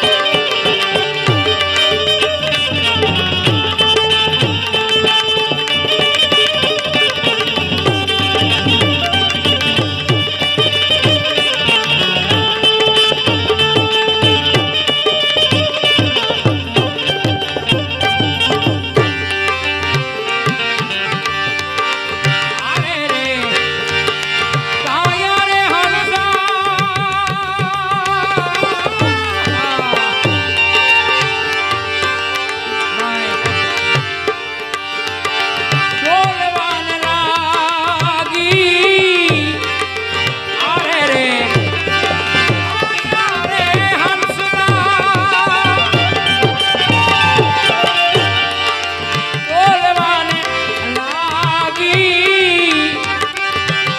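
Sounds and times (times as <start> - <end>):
ornamented melody line: 0.0 - 53.9
steady tabla: 0.0 - 53.9.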